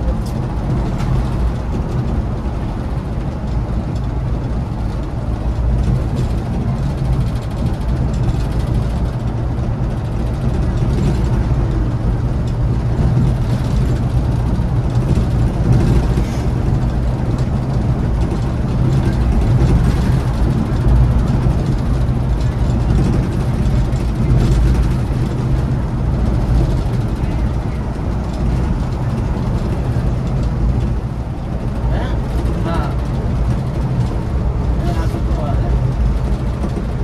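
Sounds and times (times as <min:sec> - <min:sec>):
coach engine drone: 0:00.0 - 0:37.0
road and tyre rumble: 0:00.0 - 0:37.0.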